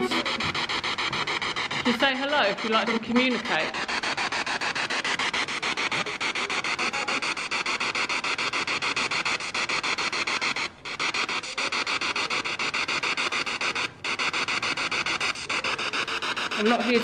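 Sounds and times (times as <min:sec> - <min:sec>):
spirit box sweeping radio static: 0:00.0 - 0:17.0.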